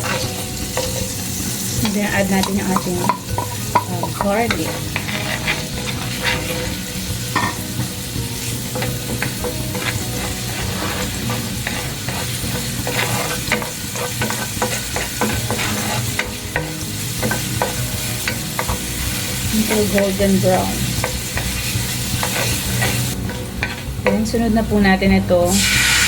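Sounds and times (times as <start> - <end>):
utensil scraping and tapping pan: 0.0 - 1.2, 1.8 - 7.9, 8.5 - 20.2, 21.0 - 24.3
garlic sizzling in a pan: 0.0 - 26.0.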